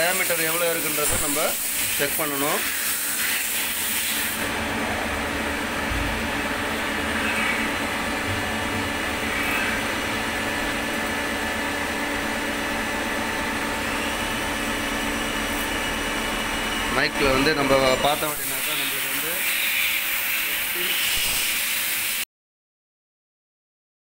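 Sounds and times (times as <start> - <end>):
lathe humming and hissing: 0.0 - 22.2.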